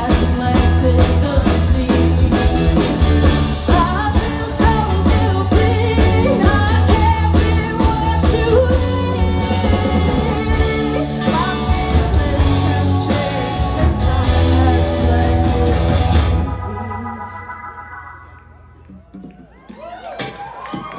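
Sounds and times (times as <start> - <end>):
woman singing: 0.0 - 17.4
live rock band playing: 0.0 - 20.9.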